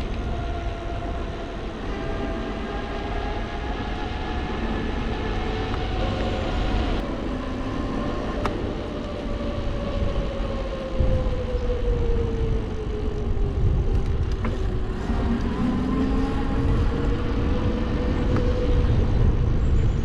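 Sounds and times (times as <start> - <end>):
wind and tyre noise: 0.0 - 20.0.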